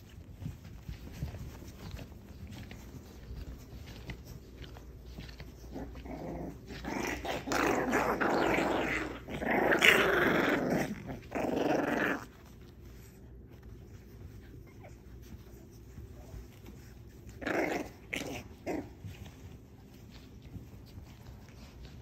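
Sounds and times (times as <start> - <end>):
puppies growling: 0.0 - 22.0.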